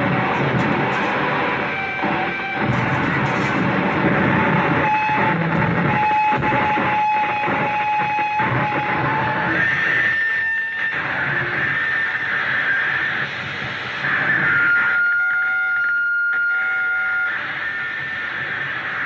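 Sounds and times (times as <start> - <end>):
distorted harsh noise: 0.0 - 19.0
held whine: 0.0 - 19.0
higher whine: 0.0 - 19.0.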